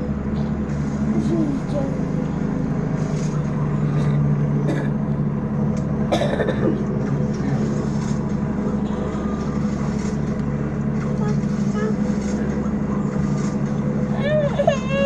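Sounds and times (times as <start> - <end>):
helicopter rotor hum: 0.0 - 15.0.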